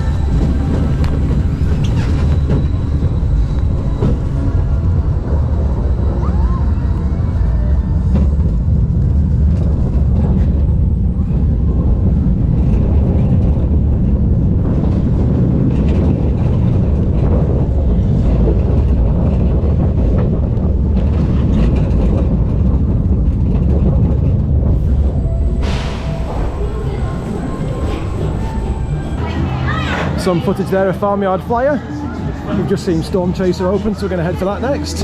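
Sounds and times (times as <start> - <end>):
fairground ride rumbling and rushing: 0.0 - 35.0.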